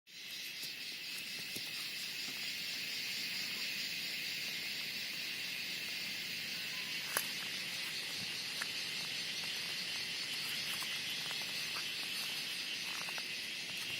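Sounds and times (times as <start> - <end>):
cicadas buzzing in chorus: 0.1 - 13.9.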